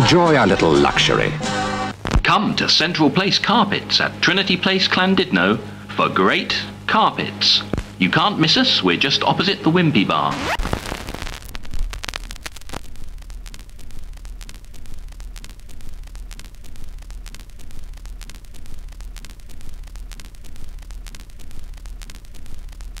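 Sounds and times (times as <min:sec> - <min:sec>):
crackling clicks: 0:01.9 - 0:23.0
low electrical hum: 0:01.9 - 0:23.0.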